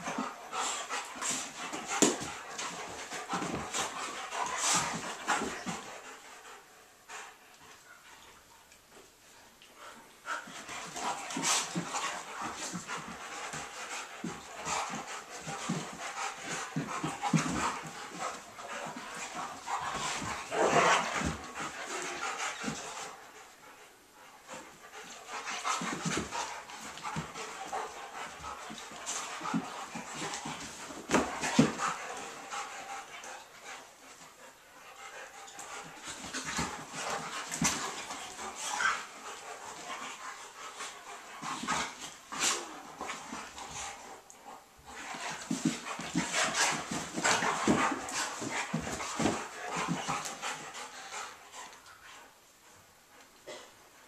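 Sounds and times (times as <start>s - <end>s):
scuffling of paws and bodies: 0.0s - 6.6s, 9.7s - 23.3s, 24.4s - 52.3s
dogs panting: 0.0s - 53.6s.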